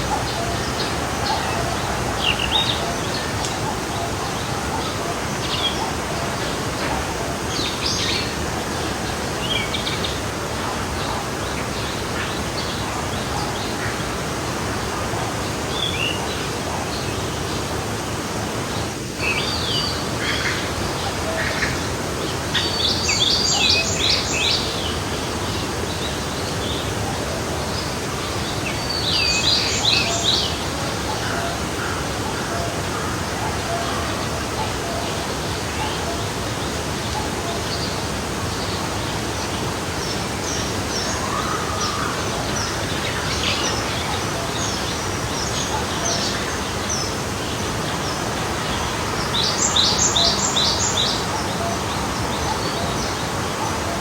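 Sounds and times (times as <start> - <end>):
birds singing: 0.0 - 14.6, 18.6 - 54.0
stream flowing: 0.0 - 54.0.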